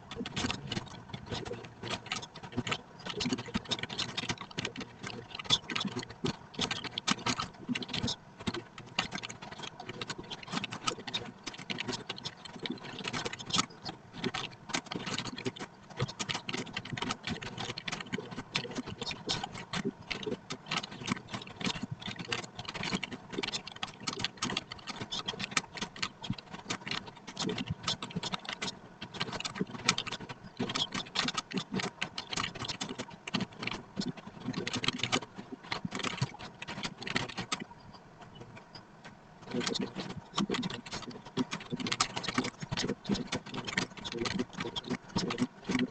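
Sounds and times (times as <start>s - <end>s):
keyboard typing: 0.0s - 37.7s, 39.5s - 45.9s.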